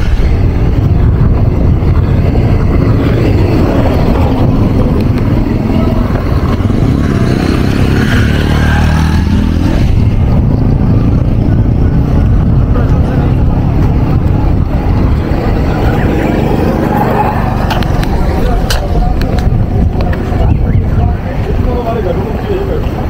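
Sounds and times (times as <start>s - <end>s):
excavators working: 0.0s - 23.0s
loud low engine rumble: 0.0s - 23.0s
vehicles on dirt road: 0.0s - 23.0s.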